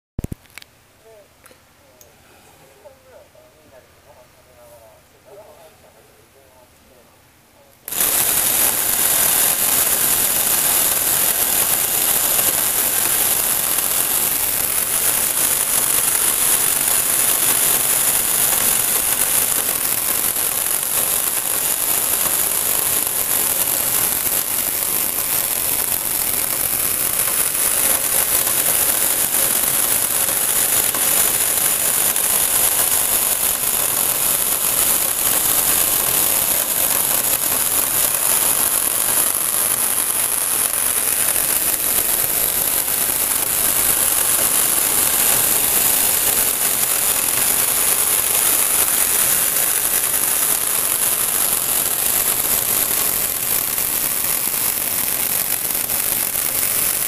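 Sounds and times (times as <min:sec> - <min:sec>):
small motor buzzing and whining: 0:07.9 - 0:57.0.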